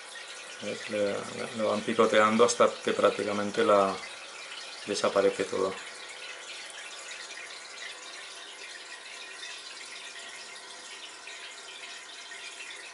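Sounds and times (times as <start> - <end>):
aquarium water trickling: 0.0 - 12.9.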